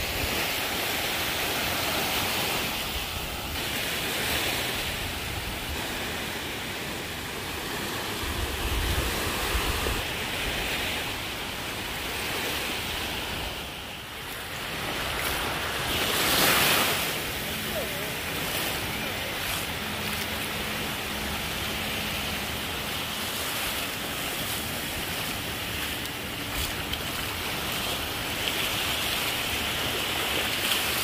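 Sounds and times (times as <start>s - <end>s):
waves breaking on shore: 0.0s - 31.0s.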